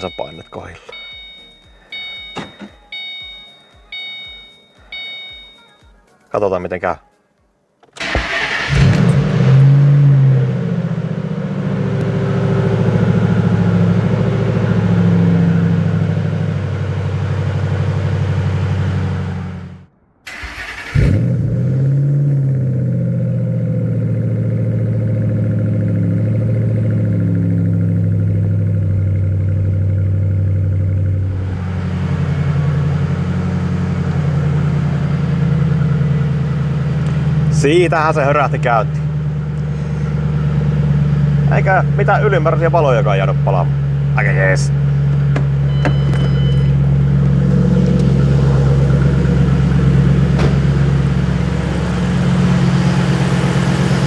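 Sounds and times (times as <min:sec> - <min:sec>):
car engine idling: 0:00.0 - 0:05.7, 0:08.0 - 0:54.0
car engine starting: 0:00.0 - 0:05.7, 0:07.8 - 0:54.0.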